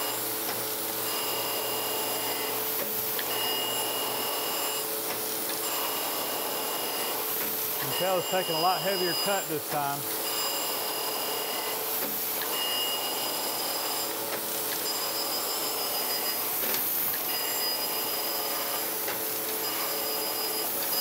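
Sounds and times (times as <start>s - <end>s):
surface grinder whining: 0.0s - 21.0s.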